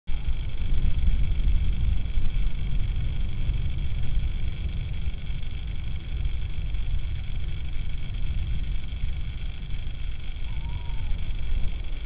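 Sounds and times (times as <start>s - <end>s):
steady low rumble: 0.1s - 12.0s.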